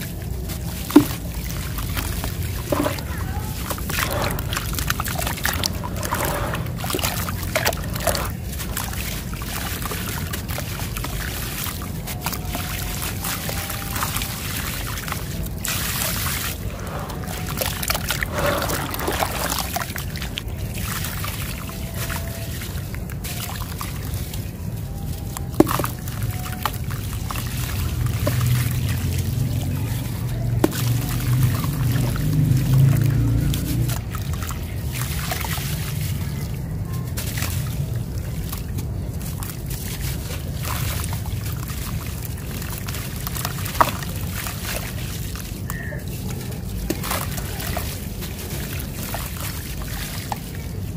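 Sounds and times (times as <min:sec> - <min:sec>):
cement lumps splashing into water: 0:00.0 - 0:50.9
hands sloshing cement in water: 0:00.0 - 0:50.9.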